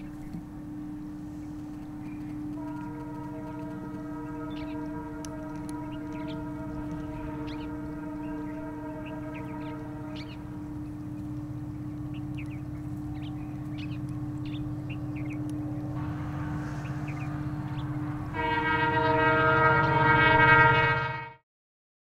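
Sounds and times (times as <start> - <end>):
droning chord music: 0.0 - 21.4
fuller music chord: 2.5 - 21.4.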